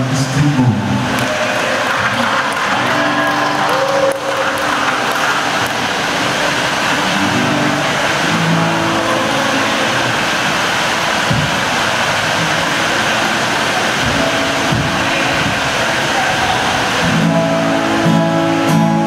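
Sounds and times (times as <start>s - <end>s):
acoustic guitar through pa: 0.0s - 19.0s
loud rushing noise: 0.0s - 19.0s.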